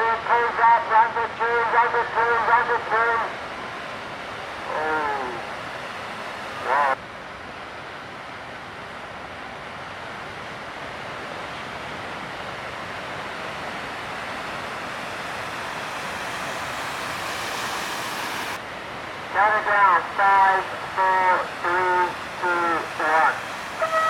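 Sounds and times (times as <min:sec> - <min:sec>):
ocean surf and breaking waves: 0:00.0 - 0:24.0.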